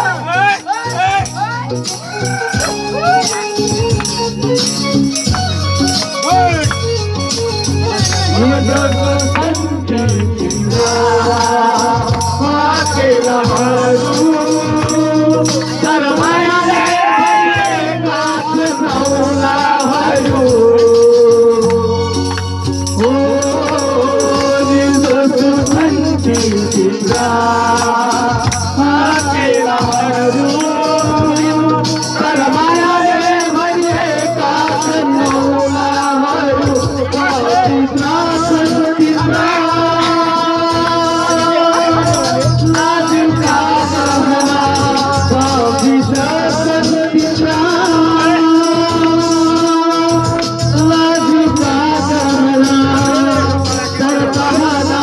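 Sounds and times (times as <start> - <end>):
percussive beat: 0.0 - 55.0
group singing: 7.9 - 55.0.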